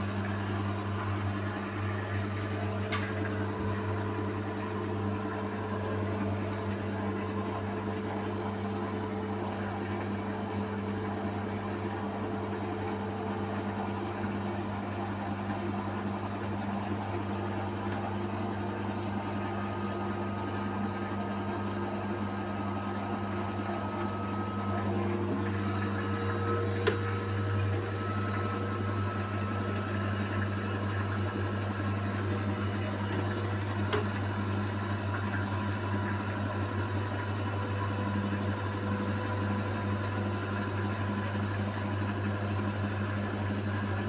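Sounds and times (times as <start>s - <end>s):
washing machine motor hum: 0.0s - 44.0s.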